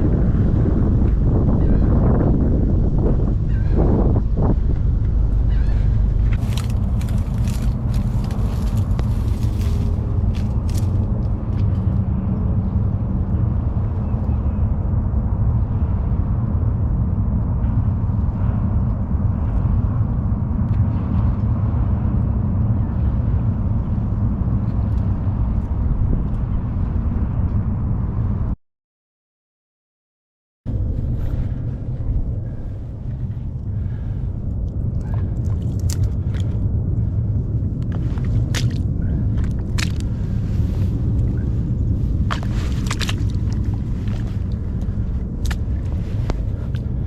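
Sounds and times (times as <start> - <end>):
motorboat engine running: 0.0 - 27.4, 30.7 - 47.0
wind noise on microphone: 0.0 - 28.6, 30.7 - 47.0.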